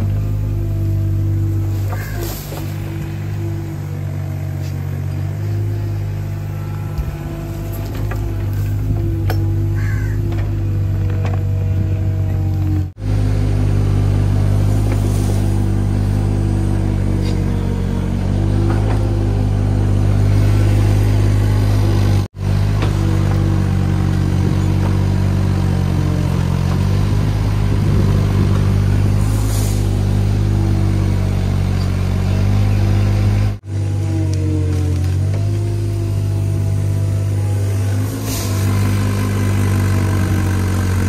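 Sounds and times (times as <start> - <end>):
excavator diesel engine working: 0.0 - 41.0.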